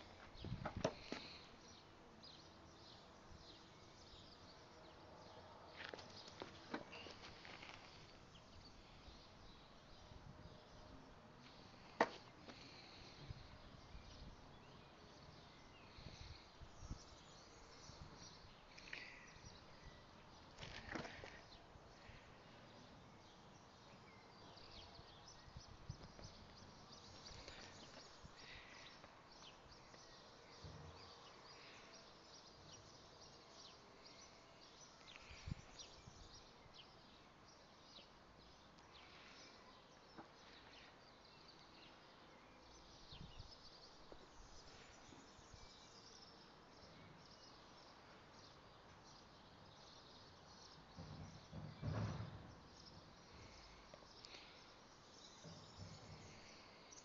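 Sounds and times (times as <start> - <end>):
distant birds chirping: 0.0 - 57.0.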